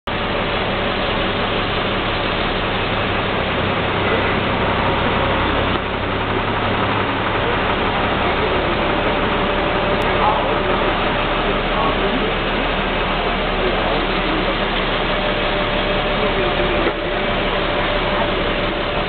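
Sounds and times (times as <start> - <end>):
bus engine hum: 0.0 - 19.0
cabin and road noise: 0.1 - 19.0.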